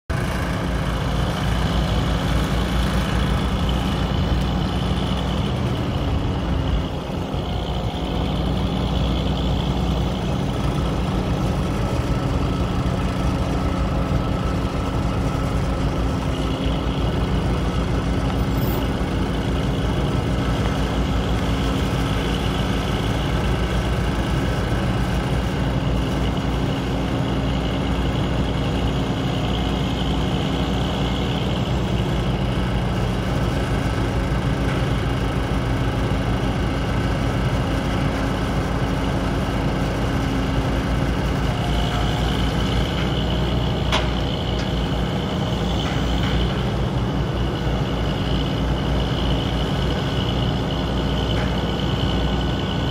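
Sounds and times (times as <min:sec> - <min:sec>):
diesel engine running: 0:00.1 - 0:52.9.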